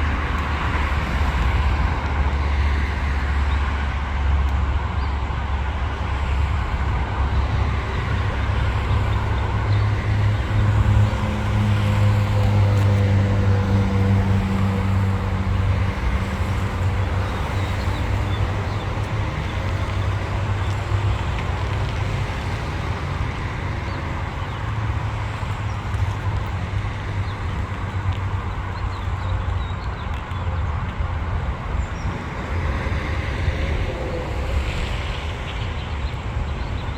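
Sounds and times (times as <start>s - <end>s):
continuous rumble: 0.0s - 36.9s
diesel locomotive engine drone: 0.0s - 36.9s.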